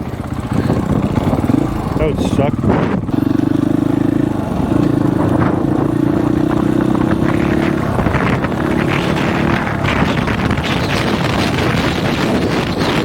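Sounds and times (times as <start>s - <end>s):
dirt bike engine running: 0.0s - 13.0s
wind noise on microphone: 0.0s - 13.0s.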